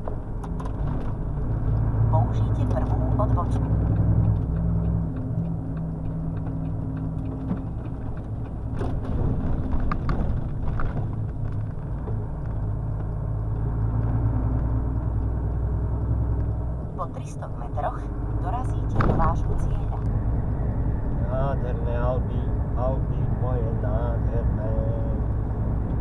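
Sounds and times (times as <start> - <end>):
truck diesel engine rumbling: 0.0 - 26.0.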